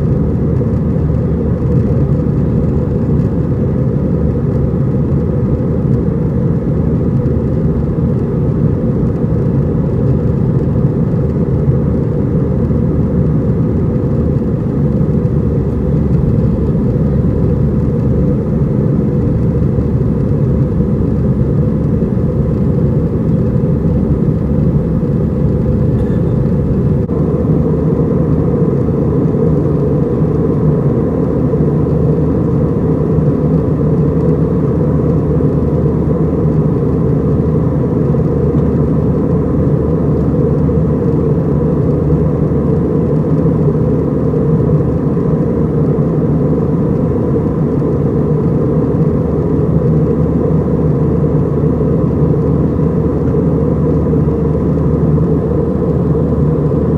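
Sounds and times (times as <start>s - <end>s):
faint high steady hum: 0.0s - 56.9s
jet engine cabin rumble: 0.0s - 56.9s.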